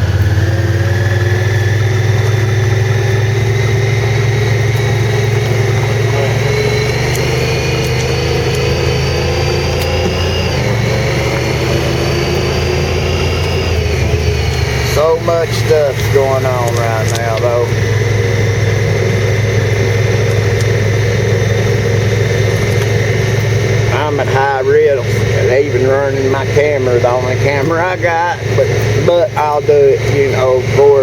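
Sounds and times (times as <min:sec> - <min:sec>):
four-wheeler engine running: 0:00.0 - 0:31.0.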